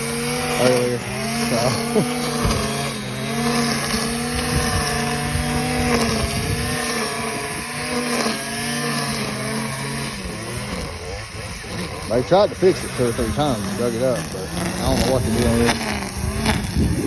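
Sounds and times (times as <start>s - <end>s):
small lawn equipment engine: 0.0s - 17.0s.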